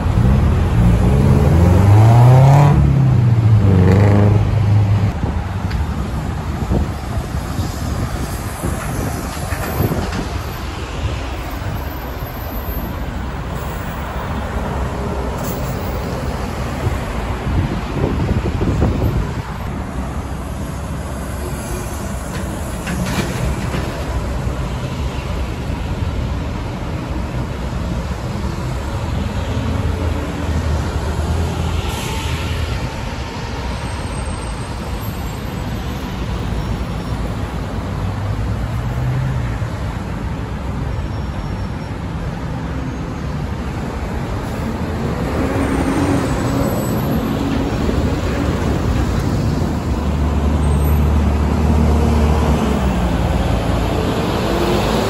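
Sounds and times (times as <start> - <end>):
bus engines rumbling: 0.0 - 55.0.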